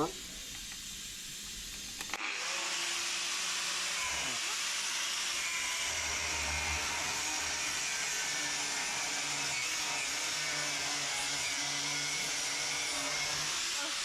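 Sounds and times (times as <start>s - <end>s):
power cutting tool cutting steel: 0.0s - 14.0s.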